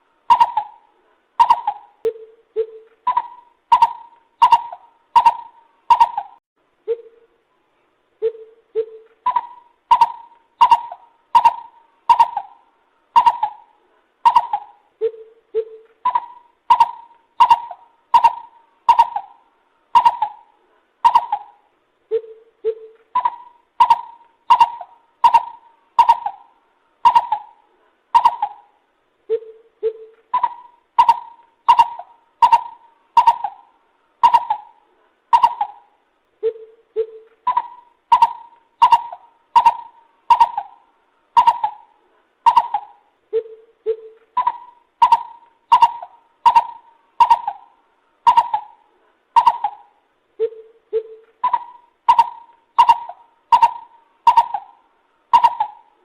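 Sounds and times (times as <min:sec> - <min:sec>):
bird calling hollow notes: 0:00.0 - 0:07.3, 0:08.2 - 0:56.0.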